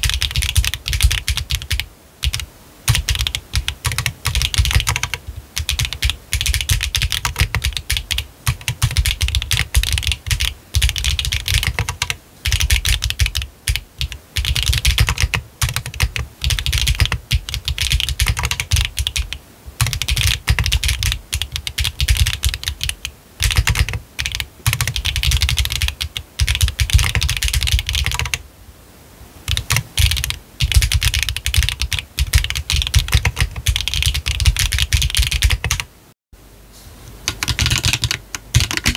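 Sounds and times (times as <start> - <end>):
fast mechanical keyboard typing: 0.0 - 28.4, 29.5 - 35.9, 37.3 - 38.9.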